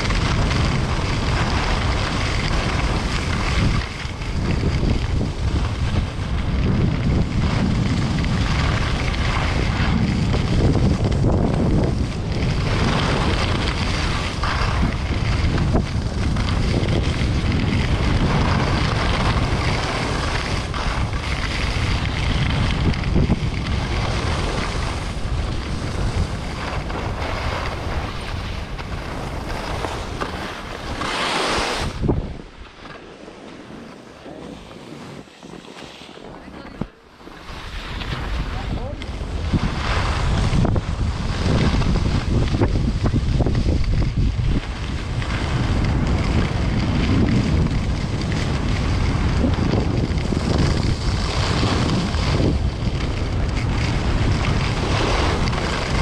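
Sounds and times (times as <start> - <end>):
skis running over snow: 0.0 - 56.0
wind buffeting microphone: 0.0 - 56.0.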